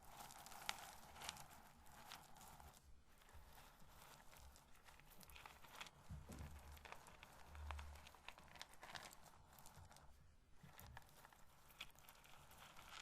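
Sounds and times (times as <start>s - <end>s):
corn kernels clicking and rustling: 0.0s - 13.0s.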